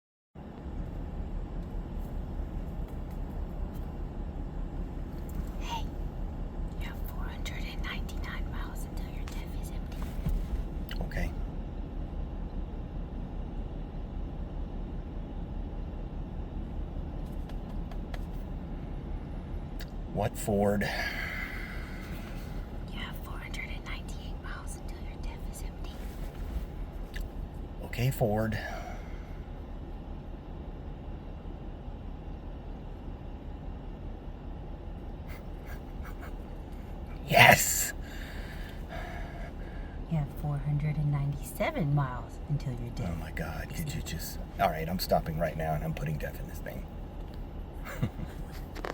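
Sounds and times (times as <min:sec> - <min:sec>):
pickup truck rumble from inside: 0:00.4 - 0:48.9
road noise: 0:00.4 - 0:48.9.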